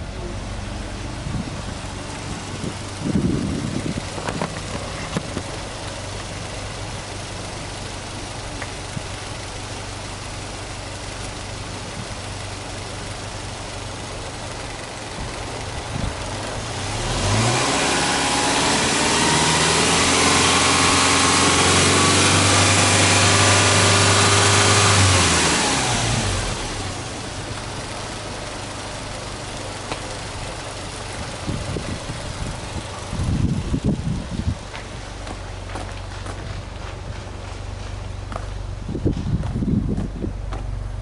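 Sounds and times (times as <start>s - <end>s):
car engine idling and revving: 0.0s - 41.0s.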